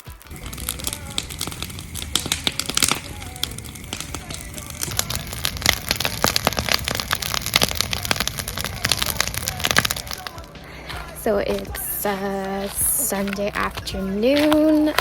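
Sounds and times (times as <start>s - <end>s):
faint music: 0.0s - 15.0s
wood fire crackling and popping: 0.0s - 15.0s.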